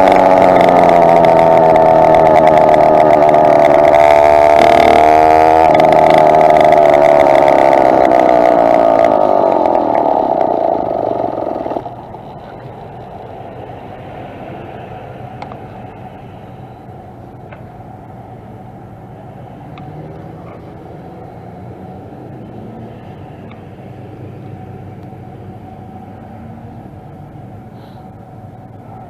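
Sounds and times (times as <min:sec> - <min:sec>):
quiet steady noise: 0:00.0 - 0:29.0
two-stroke engine running: 0:00.0 - 0:29.0.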